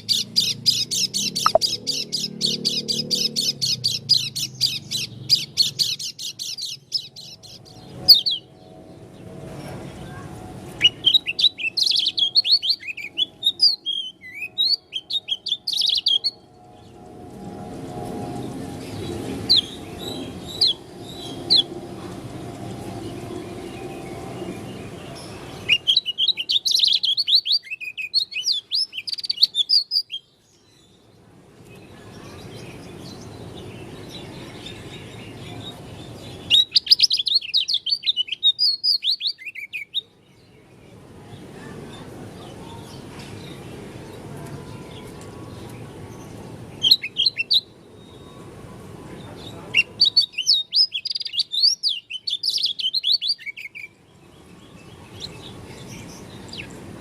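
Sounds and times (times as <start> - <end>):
bird twittering song: 0.0 - 21.8, 22.6 - 48.6, 49.3 - 57.0.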